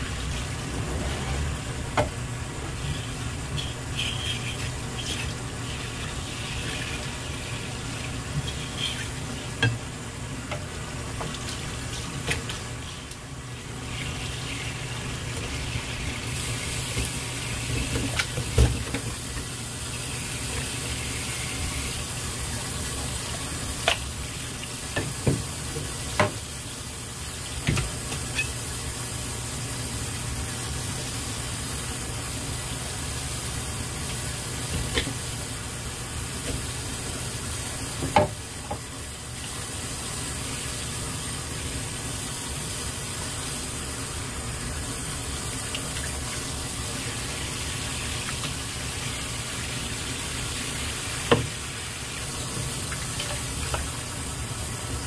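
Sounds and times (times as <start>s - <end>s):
tap water running: 0.0s - 55.0s.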